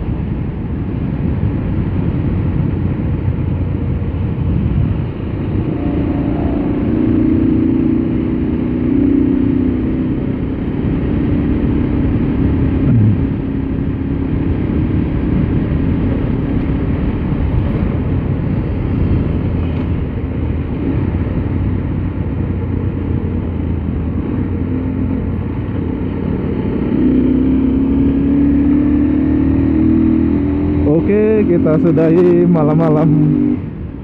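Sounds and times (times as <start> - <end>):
wind rumble on microphone: 0.0 - 34.0
motorcycle engine running: 3.2 - 33.6.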